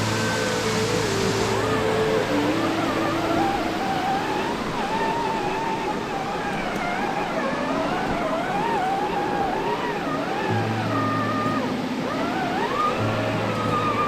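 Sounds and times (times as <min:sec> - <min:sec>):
electric motor whining: 0:00.0 - 0:14.0
steady hiss: 0:00.0 - 0:14.0.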